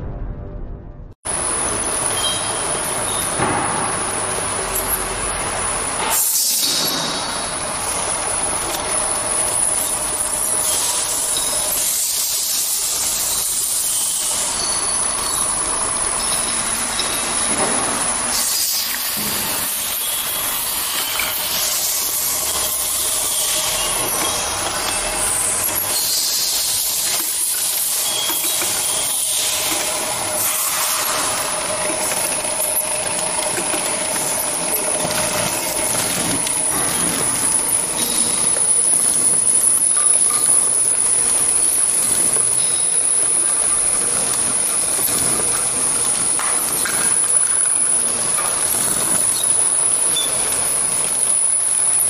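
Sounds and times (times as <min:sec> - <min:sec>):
thin high-pitched whine: 0:01.3 - 0:05.1, 0:06.0 - 0:52.0
machine hissing: 0:01.3 - 0:52.0.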